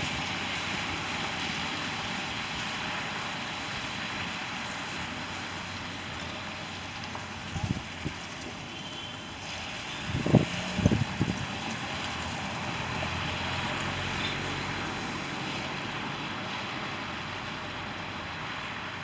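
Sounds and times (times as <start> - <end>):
passing vehicles rushing: 0.0 - 19.0.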